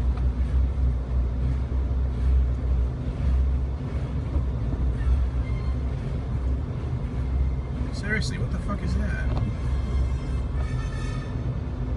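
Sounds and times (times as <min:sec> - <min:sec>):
engine and tyres rumbling: 0:00.0 - 0:11.9.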